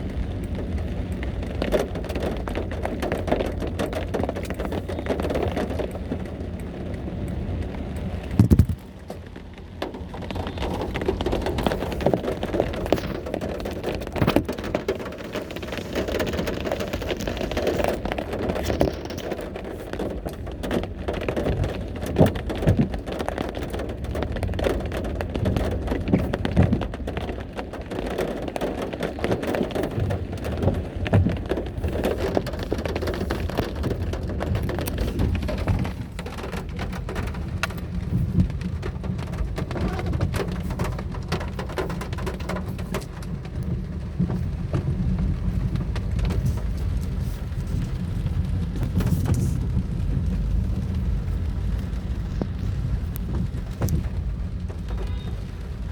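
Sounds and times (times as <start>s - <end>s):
heavy rain pattering: 0.0s - 55.9s
raindrops tapping: 0.0s - 55.9s.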